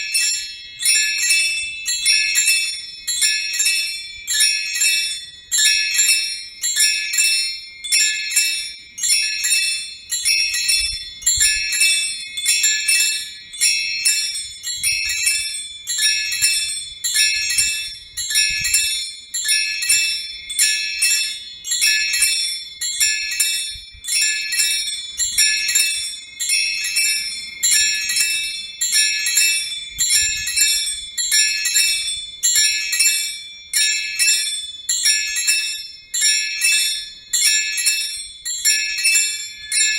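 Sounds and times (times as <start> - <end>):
small bells chiming: 0.0 - 39.9.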